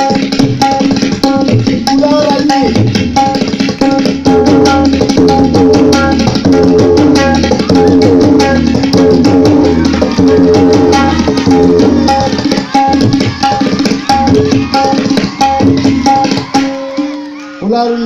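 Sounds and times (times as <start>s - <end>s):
tabla fast rhythm: 0.0s - 18.0s.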